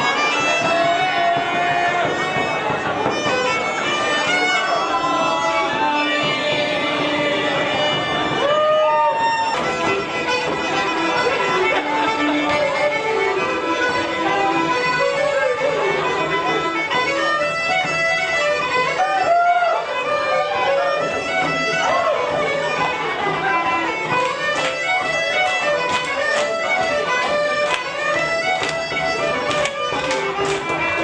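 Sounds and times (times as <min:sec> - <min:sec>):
fiddle dance tune: 0:00.0 - 0:31.0.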